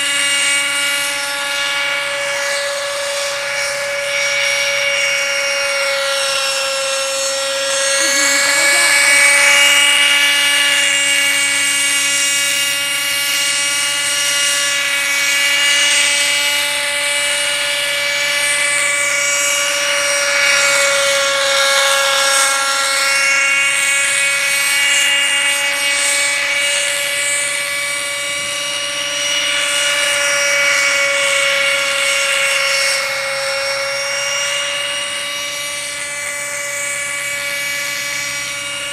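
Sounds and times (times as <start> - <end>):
helicopter high whine: 0.0 - 38.9.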